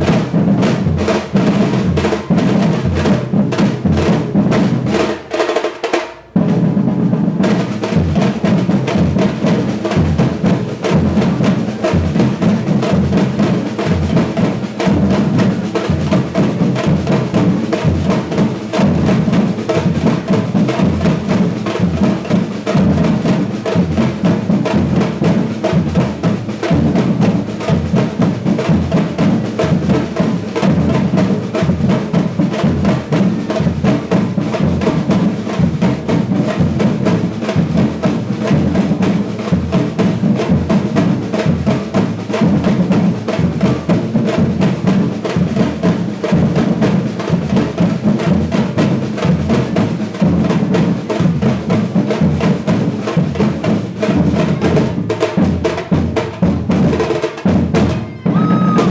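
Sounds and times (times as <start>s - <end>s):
percussion ensemble playing: 0.0s - 58.9s.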